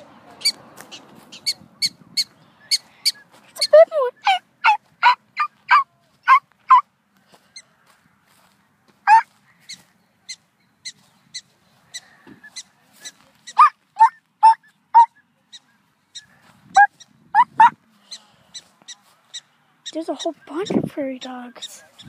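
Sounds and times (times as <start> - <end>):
prairie dogs barking: 0.4 - 6.9, 9.0 - 22.0.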